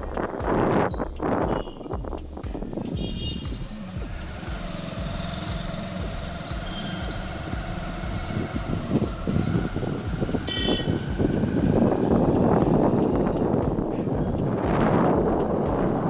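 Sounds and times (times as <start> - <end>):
road rumble: 0.0 - 16.0
vehicle engine hum: 0.0 - 16.0
wind buffeting: 0.0 - 16.0.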